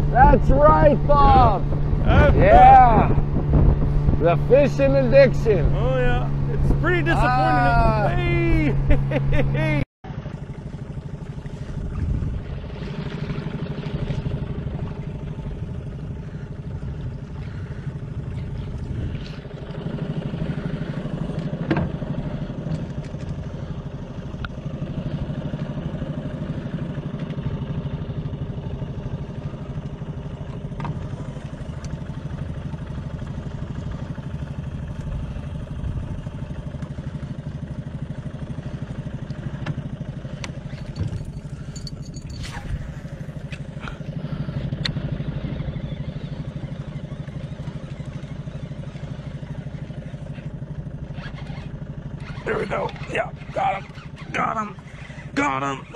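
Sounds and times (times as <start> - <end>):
boat motor running: 0.0 - 55.9.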